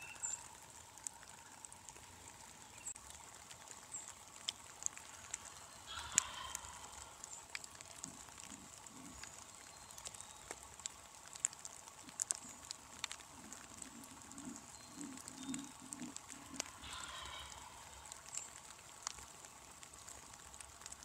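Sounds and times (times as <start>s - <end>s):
raindrops ticking on dry leaves: 0.0s - 21.0s.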